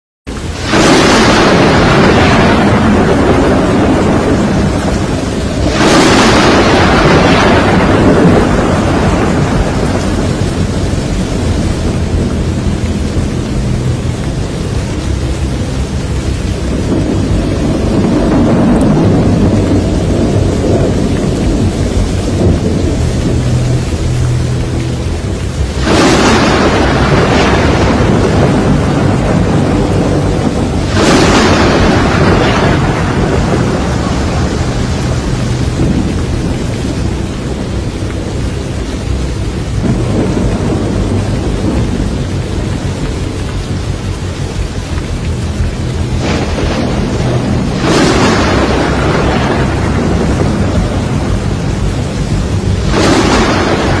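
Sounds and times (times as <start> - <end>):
heavy rain: 0.3 - 54.0
thunder claps: 0.3 - 54.0.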